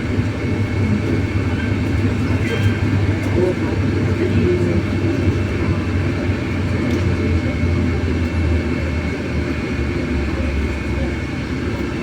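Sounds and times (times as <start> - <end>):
bus road rumble: 0.0 - 12.0.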